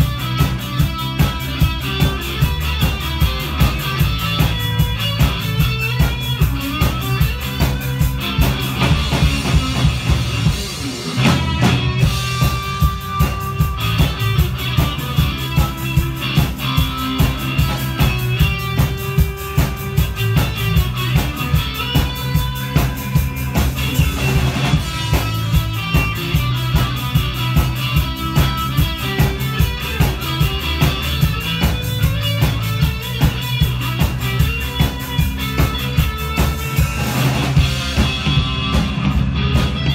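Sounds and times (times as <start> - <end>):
drum kit steady beat: 0.0 - 39.9
electric guitar: 0.0 - 39.9.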